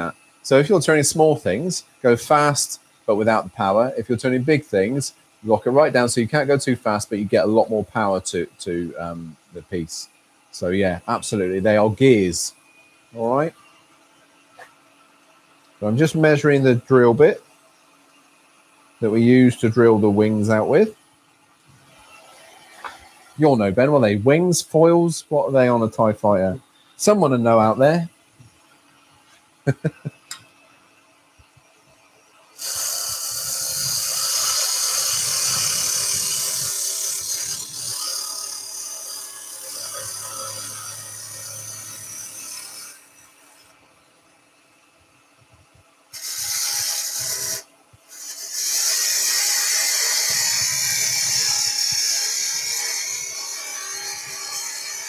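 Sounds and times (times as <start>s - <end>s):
turning tool cutting wood: 0.0s - 21.0s, 21.6s - 30.6s, 32.5s - 43.9s, 46.1s - 55.0s.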